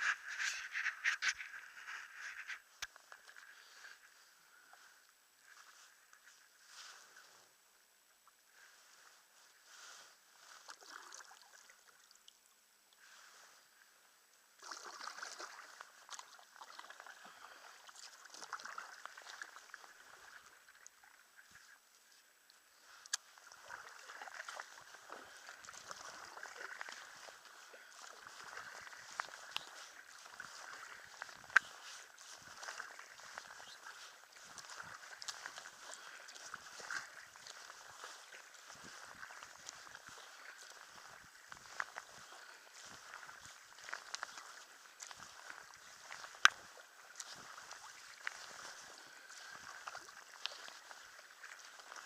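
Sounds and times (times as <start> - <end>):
kayak paddle splashing: 8.5 - 52.0.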